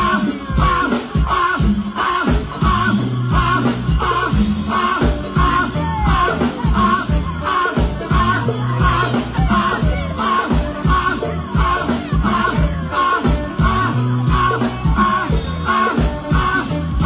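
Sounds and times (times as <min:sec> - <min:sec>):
live band over pa system: 0:00.0 - 0:17.0.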